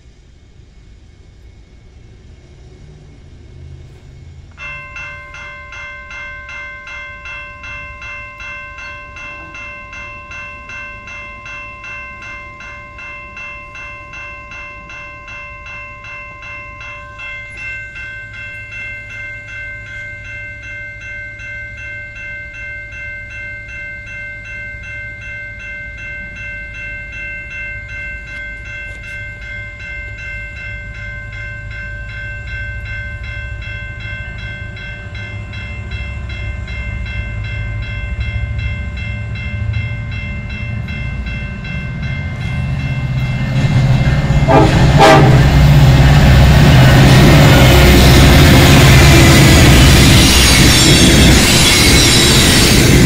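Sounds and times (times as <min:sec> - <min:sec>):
diesel locomotives passing: 0:00.0 - 0:53.0
warning bell ringing: 0:02.3 - 0:53.0.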